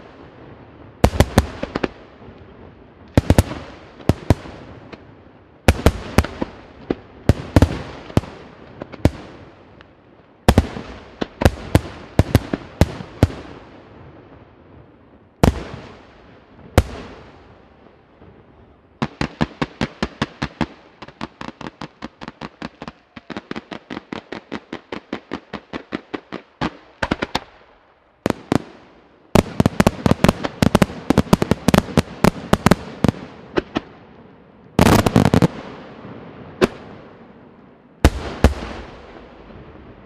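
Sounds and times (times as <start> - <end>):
fireworks bangs: 0.0 - 9.8, 10.4 - 27.6, 28.2 - 40.0.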